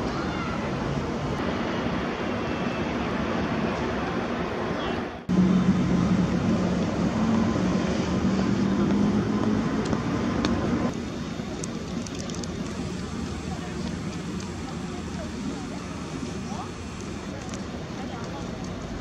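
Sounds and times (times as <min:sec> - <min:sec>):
city background noise: 0:00.0 - 0:19.0.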